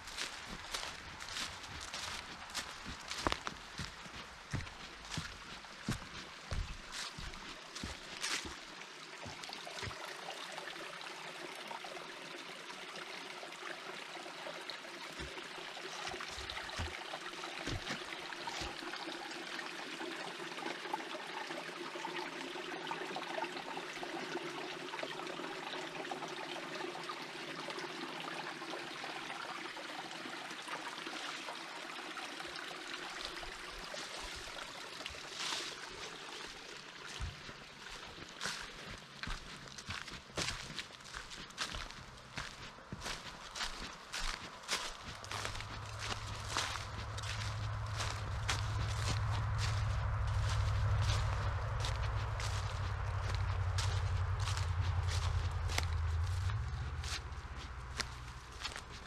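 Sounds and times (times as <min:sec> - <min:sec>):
forest creek trickling: 0:00.0 - 0:59.0.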